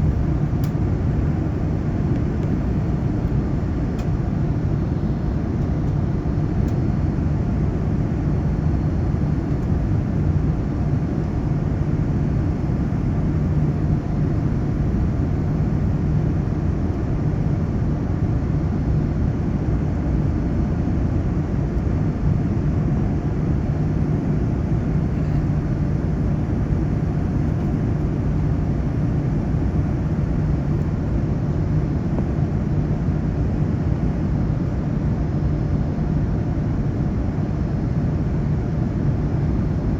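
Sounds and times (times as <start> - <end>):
airliner cabin engine rumble: 0.0 - 39.9
constant low hum: 0.0 - 39.9.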